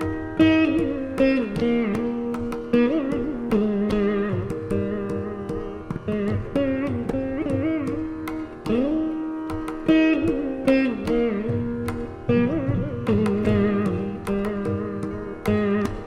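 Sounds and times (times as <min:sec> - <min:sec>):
plucked veena melody: 0:00.0 - 0:16.0.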